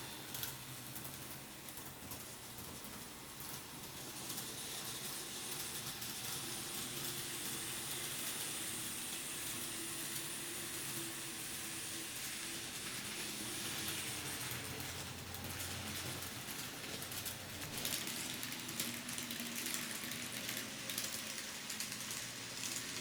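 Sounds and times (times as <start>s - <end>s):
faint motor whine: 0.0s - 23.0s
model train wheels hissing on rails: 2.8s - 23.0s.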